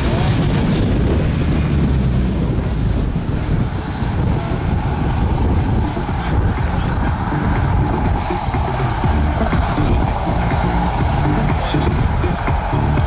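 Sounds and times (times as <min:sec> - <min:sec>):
car engines rumbling: 0:00.0 - 0:13.0
wind buffeting microphone: 0:00.0 - 0:13.0.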